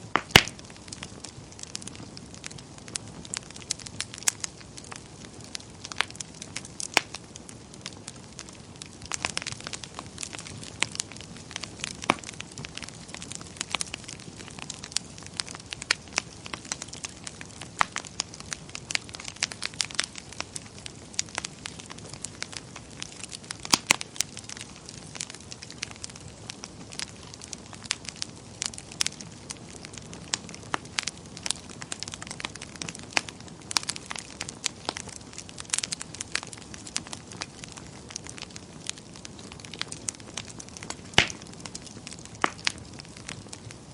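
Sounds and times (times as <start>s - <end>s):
fire crackling in fireplace: 0.0s - 43.9s.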